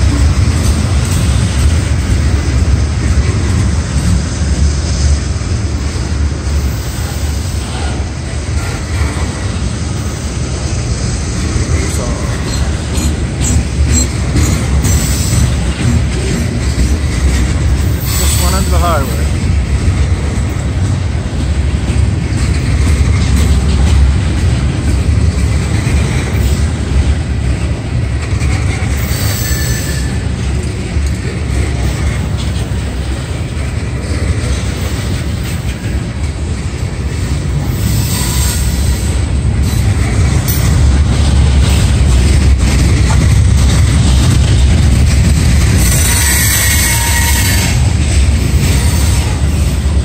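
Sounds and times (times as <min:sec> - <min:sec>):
steel wheels rumbling on rail: 0:00.0 - 0:50.0.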